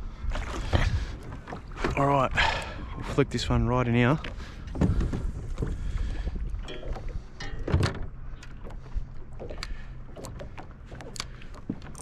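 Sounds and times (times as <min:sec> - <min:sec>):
small waves lapping against boat hull: 0:00.0 - 0:12.0.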